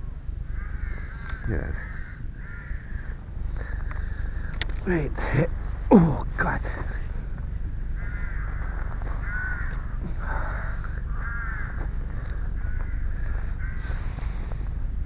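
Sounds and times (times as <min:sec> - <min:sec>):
crows cawing: 0:00.0 - 0:15.0
steady low rumble: 0:00.0 - 0:15.0.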